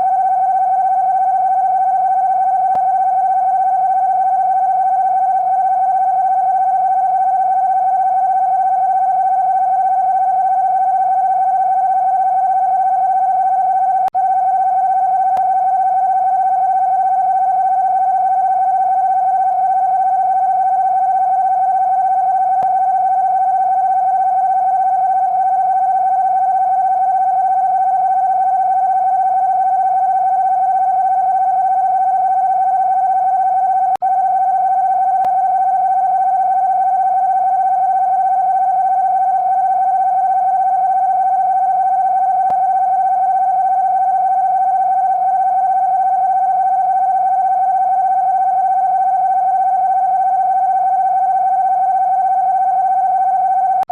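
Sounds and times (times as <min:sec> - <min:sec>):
electronic alarm tone: 0:00.0 - 0:53.9.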